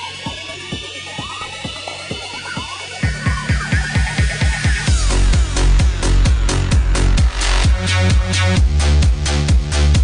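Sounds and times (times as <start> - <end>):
electronic dance music: 0.0 - 10.0
heavy bass: 0.0 - 10.0
kick drum beating: 0.0 - 10.0.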